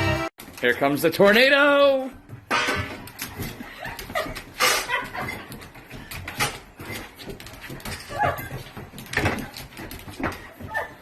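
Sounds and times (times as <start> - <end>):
scuffling noises: 0.4 - 11.0.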